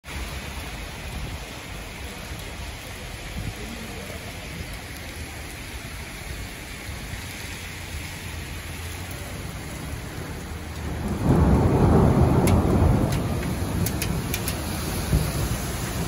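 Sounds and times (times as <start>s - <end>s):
rain falling on wet street: 0.0s - 16.0s.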